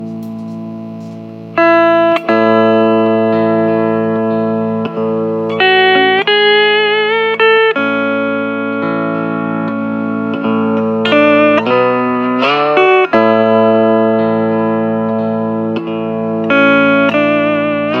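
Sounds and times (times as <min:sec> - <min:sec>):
held backing chords: 0:00.0 - 0:18.0
steel guitar sliding melody: 0:00.0 - 0:18.0.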